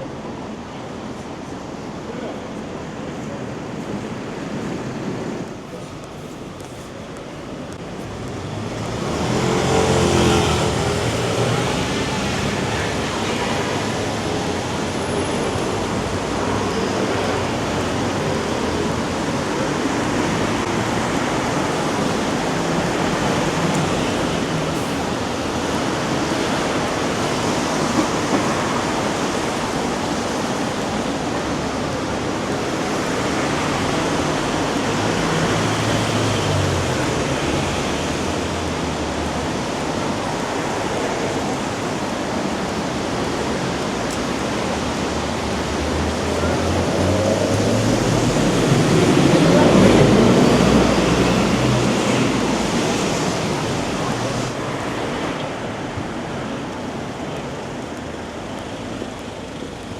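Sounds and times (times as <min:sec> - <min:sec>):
rain falling on streets: 0:00.0 - 0:59.9.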